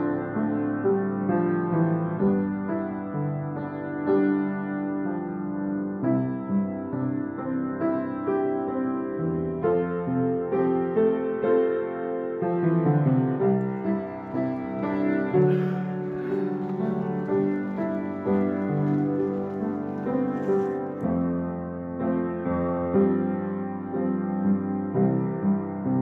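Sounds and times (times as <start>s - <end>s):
gentle piano piece: 0.0s - 26.0s.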